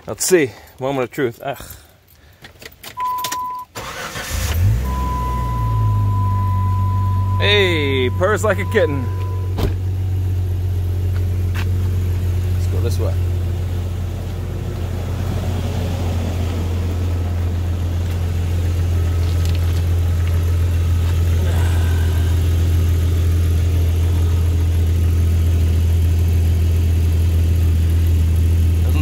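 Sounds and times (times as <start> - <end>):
car engine idling: 3.8 - 29.0.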